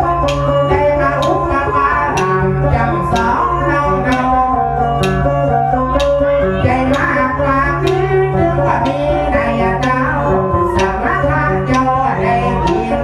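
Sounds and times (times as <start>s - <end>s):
sharp percussive beat: 0.0s - 13.0s.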